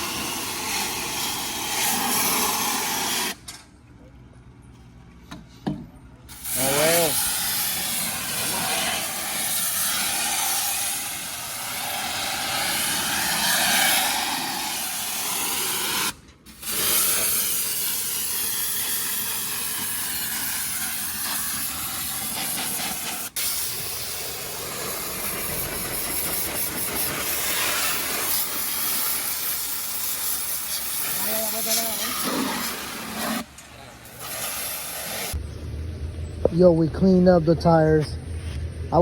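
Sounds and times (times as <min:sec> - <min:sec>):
pressure washer spraying water: 0:00.0 - 0:03.4, 0:06.3 - 0:35.4.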